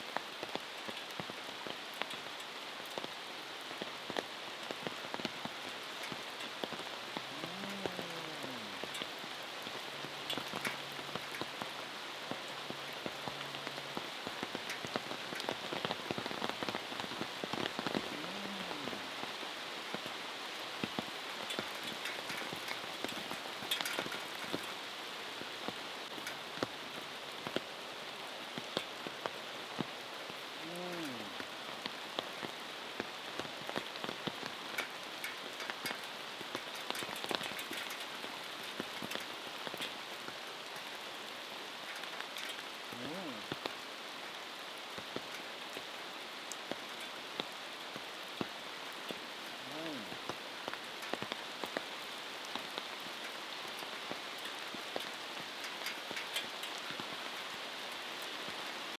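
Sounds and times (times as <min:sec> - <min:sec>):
raindrops tapping surfaces: 0:00.0 - 0:58.9
steady rain falling: 0:00.0 - 0:58.9.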